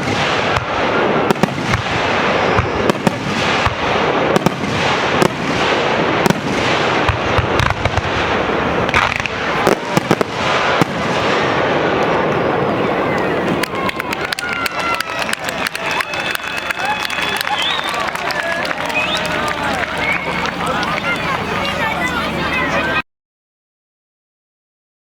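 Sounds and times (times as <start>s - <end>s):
fireworks booms and cracks: 0.0s - 21.8s.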